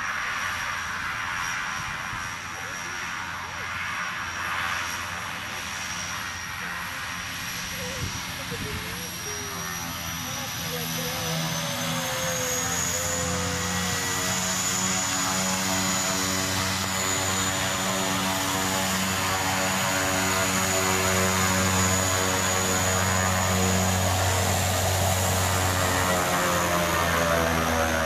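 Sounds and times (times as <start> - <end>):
low propeller drone: 0.0 - 28.0
turbine whine: 0.0 - 28.0.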